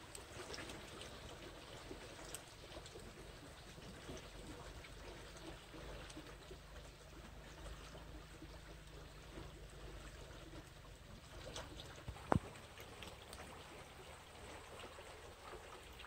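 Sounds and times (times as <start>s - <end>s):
faint flowing water: 0.0s - 16.0s.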